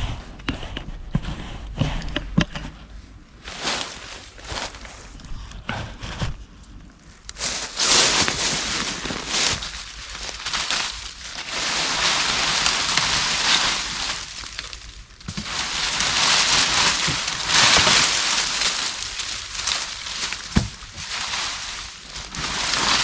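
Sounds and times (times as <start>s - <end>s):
dry leaves and sticks rustling: 3.4s - 23.0s.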